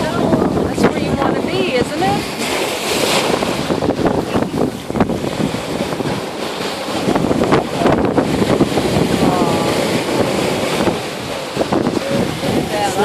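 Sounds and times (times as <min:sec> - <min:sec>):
small waves splashing: 0:00.0 - 0:13.0
wind buffeting microphone: 0:00.0 - 0:13.0.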